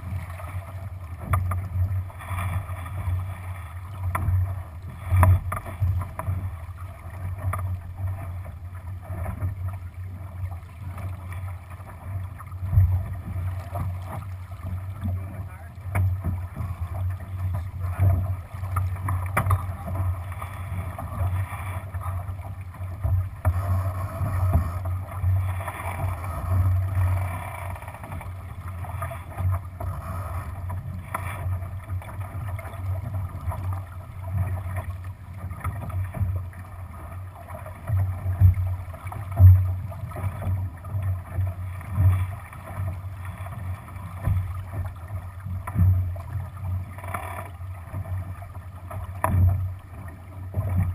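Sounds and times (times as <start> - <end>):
water rushing along hull: 0.0 - 50.9.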